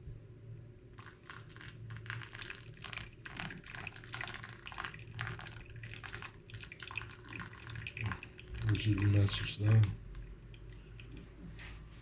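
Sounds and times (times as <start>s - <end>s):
hot water pouring onto coffee: 1.0s - 11.8s.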